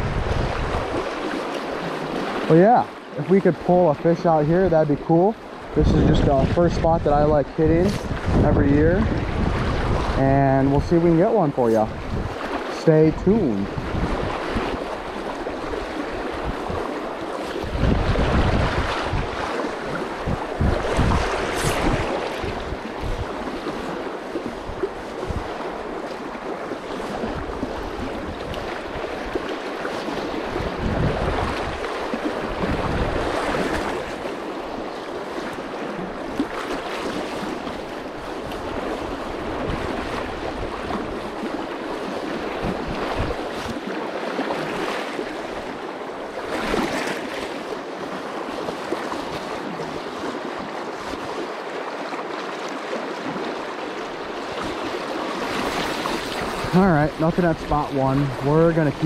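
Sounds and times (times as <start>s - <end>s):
wind buffeting microphone: 0.0s - 2.6s, 3.2s - 43.9s, 54.2s - 59.0s
river current rushing: 0.0s - 59.0s.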